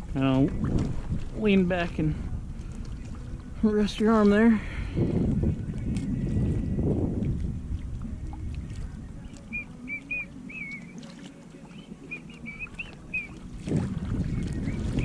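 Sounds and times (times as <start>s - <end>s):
wind noise: 0.0s - 10.2s, 13.0s - 15.0s
water rushing around kayak: 0.0s - 15.0s.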